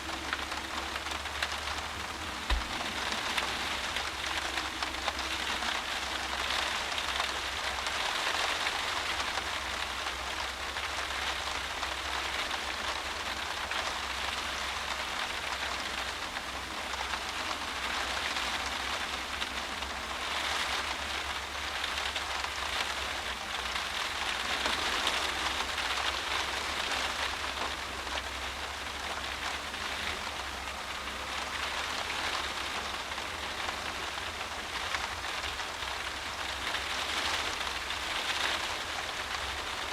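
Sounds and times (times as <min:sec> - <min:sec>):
heavy rain beating on window: 0:00.0 - 0:39.9
low steady hum: 0:00.0 - 0:39.9.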